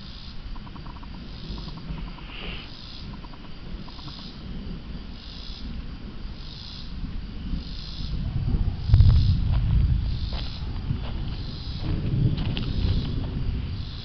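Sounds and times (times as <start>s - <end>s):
insects chirping: 0.0s - 14.0s
thunder rumble: 0.7s - 14.0s.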